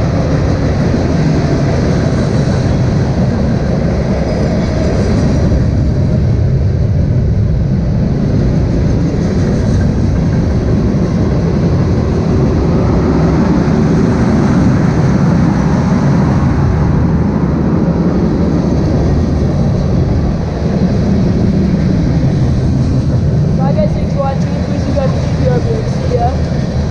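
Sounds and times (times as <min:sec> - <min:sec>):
freight train wheels rumbling: 0:00.0 - 0:26.9.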